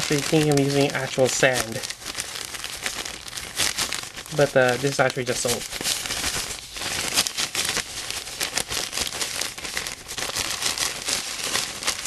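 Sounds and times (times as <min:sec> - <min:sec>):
bag of salt being shaken: 0:00.0 - 0:12.0
plastic bag crinkling: 0:00.0 - 0:12.0.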